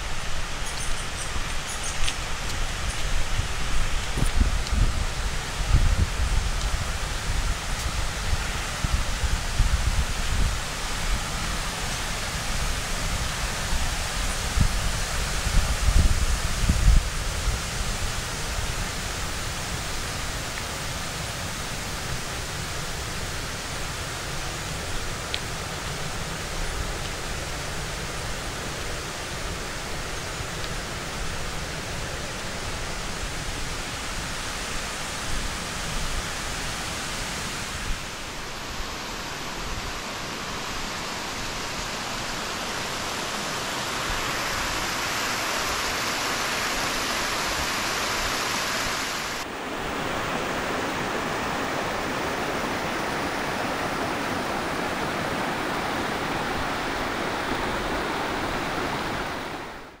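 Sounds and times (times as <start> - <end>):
waterfall rushing over rock: 0.0 - 60.0.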